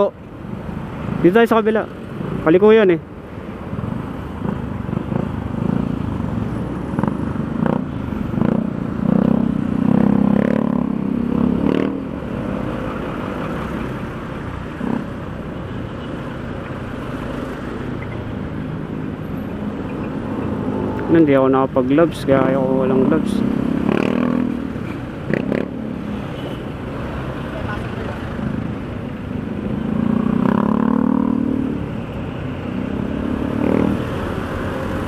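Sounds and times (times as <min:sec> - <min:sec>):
traffic noise: 0:00.0 - 0:35.0.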